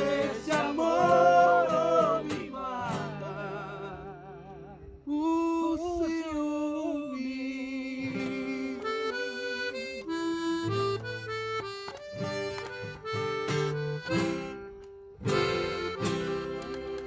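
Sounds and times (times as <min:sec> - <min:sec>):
accordion: 0:00.0 - 0:05.1, 0:07.0 - 0:17.0
plucked acoustic guitar: 0:00.0 - 0:06.0, 0:07.4 - 0:17.0.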